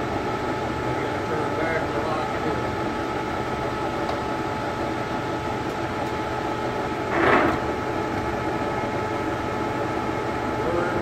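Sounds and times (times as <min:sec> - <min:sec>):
lathe running with steady hum: 0:00.0 - 0:11.0.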